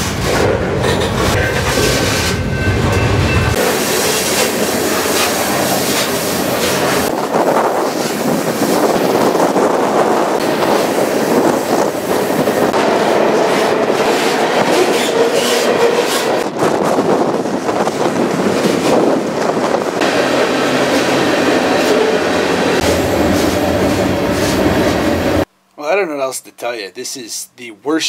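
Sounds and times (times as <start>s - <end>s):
train wheels rumbling and rattling: 0.0s - 25.5s.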